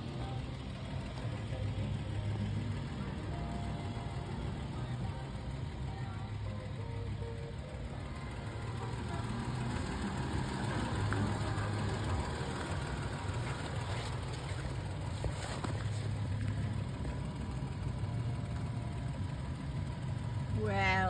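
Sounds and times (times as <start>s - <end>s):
car engine and road noise rumbling: 0.0s - 21.0s.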